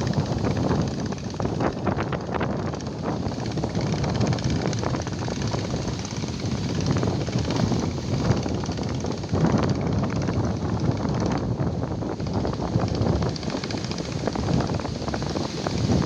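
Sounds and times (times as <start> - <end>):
surf waves breaking: 0.0 - 16.0
wind buffeting microphone: 0.0 - 16.0.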